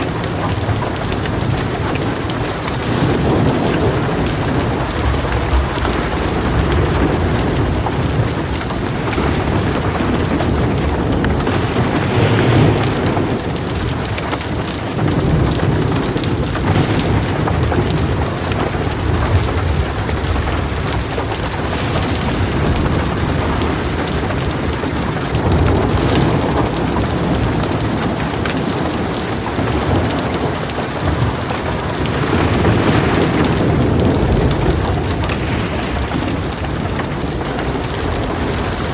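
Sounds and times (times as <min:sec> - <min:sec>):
heavy rain on a metal roof: 0:00.0 - 0:38.9
low rolling thunder: 0:00.0 - 0:38.9.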